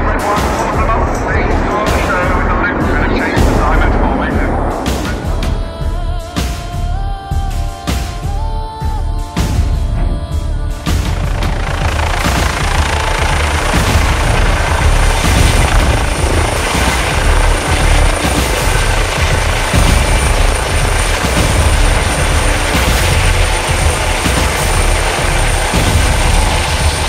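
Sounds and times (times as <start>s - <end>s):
helicopter rotor and turbine: 0.0s - 7.7s, 8.4s - 27.0s.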